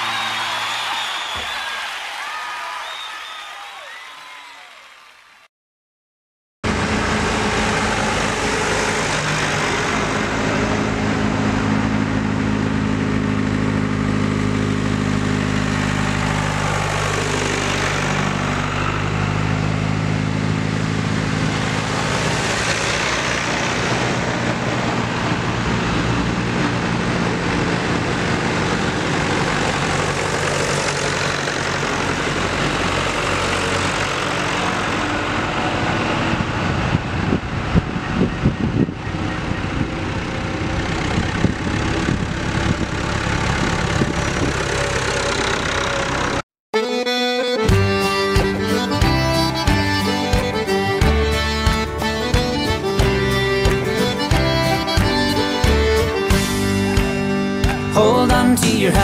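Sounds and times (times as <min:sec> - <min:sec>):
tractor engines running: 0:06.6 - 0:59.0.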